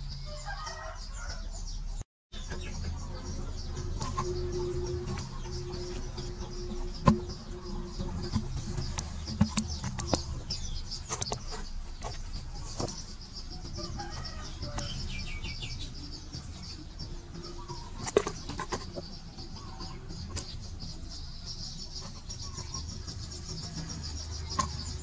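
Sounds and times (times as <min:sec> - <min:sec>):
birds calling: 0:00.0 - 0:25.0
high pulsing background: 0:02.4 - 0:25.0.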